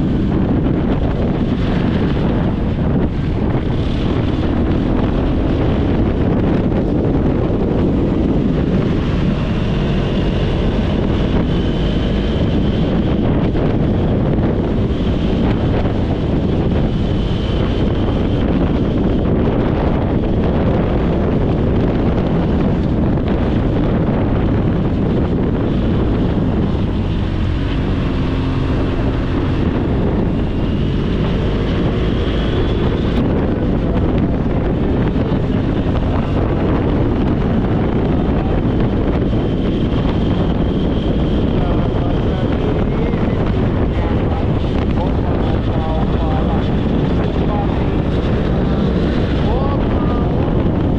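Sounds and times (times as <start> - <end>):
motorcycle engine drone: 0.0 - 50.9
wind buffeting microphone: 0.0 - 50.9.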